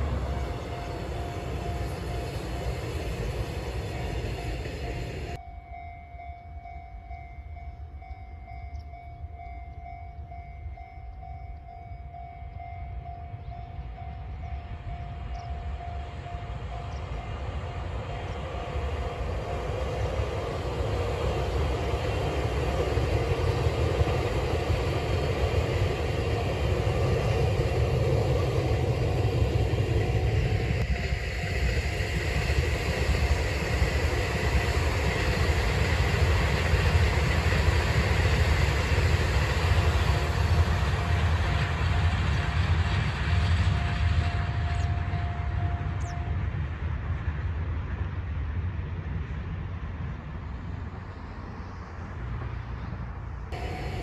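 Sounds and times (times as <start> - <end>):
thin steady train whine: 0.0 - 54.0
train wheels rumbling on rail: 0.0 - 54.0.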